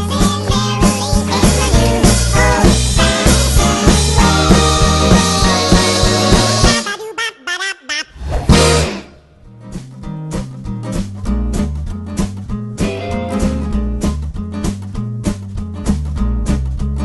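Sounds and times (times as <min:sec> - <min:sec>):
upbeat band music: 0:00.0 - 0:07.0, 0:08.5 - 0:17.0.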